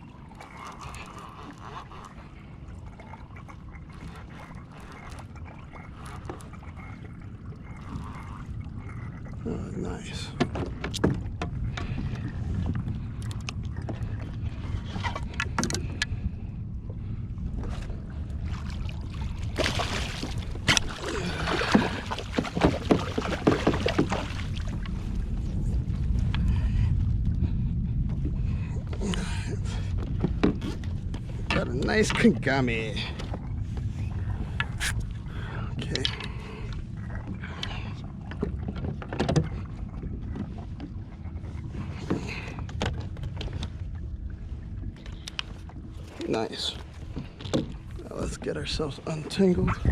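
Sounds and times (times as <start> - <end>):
steady low rumble: 0.0 - 49.9
water splashing against kayak: 0.0 - 49.9.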